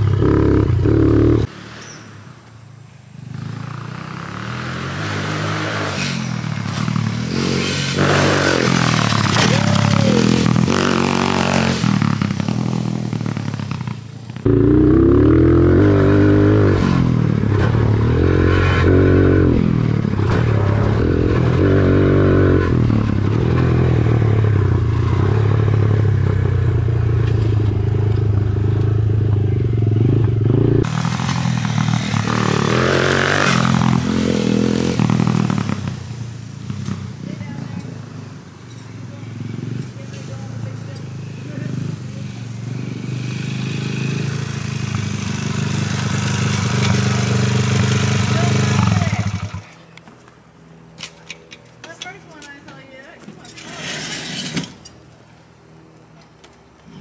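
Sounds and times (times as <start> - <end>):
dirt bike engines revving: 0.0 - 50.0.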